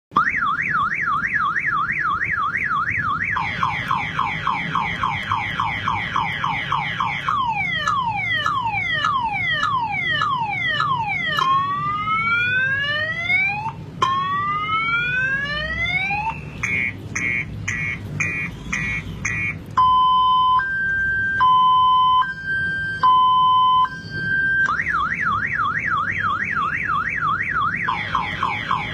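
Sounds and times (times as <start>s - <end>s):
electronic police siren: 0.1s - 28.9s.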